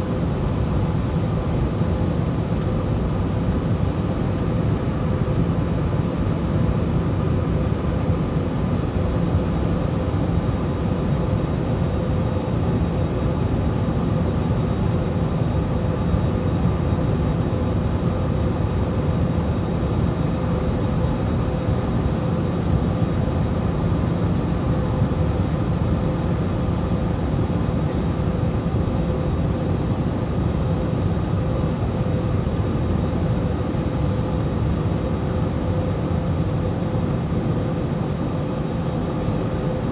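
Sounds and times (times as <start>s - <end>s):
airliner engine and air drone: 0.0s - 39.9s.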